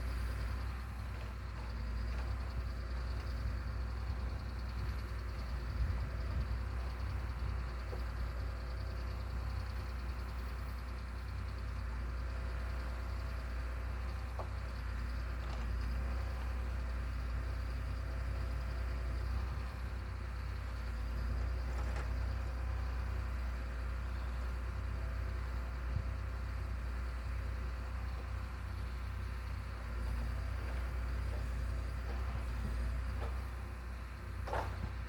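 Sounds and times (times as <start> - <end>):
machine engine rumbling: 0.0 - 35.0.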